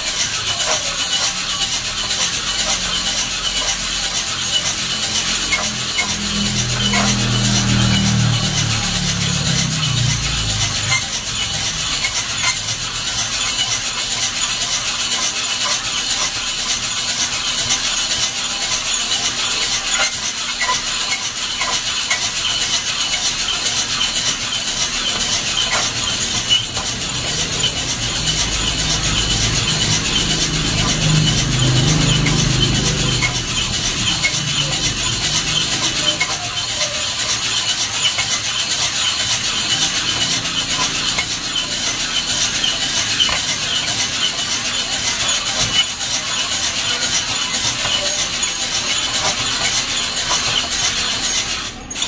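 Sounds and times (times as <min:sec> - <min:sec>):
coffee beans rustling in roaster: 0:00.0 - 0:52.0.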